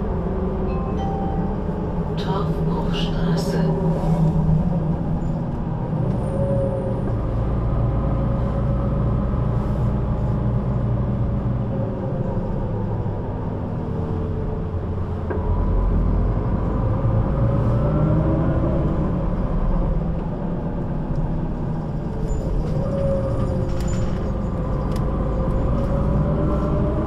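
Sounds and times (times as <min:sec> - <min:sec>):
bus diesel engine running: 0:00.0 - 0:27.0.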